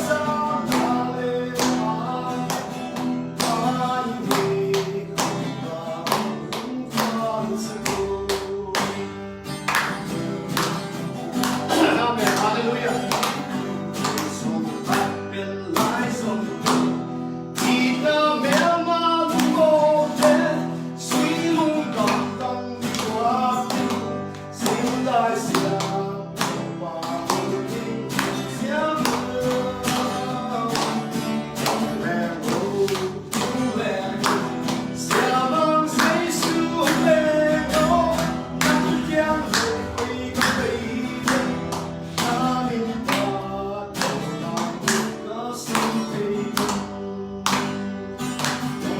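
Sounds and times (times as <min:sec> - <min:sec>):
person singing: 0:00.0 - 0:09.8, 0:11.4 - 0:48.9
guitar: 0:00.0 - 0:48.9.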